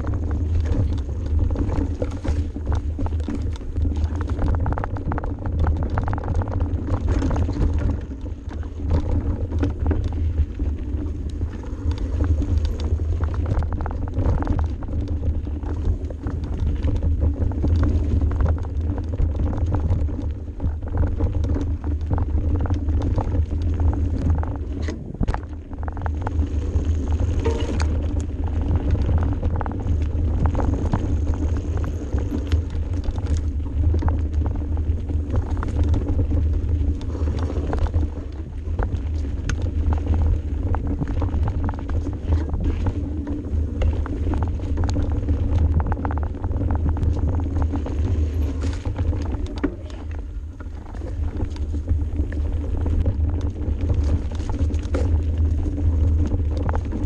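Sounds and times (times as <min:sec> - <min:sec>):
bike rattling and knocking: 0:00.0 - 0:57.0
tyres and wind rumble: 0:00.0 - 0:57.0.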